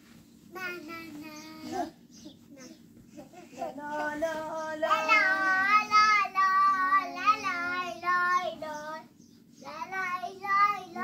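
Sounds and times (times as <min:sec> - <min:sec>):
child singing: 0:00.5 - 0:01.9, 0:03.6 - 0:11.0.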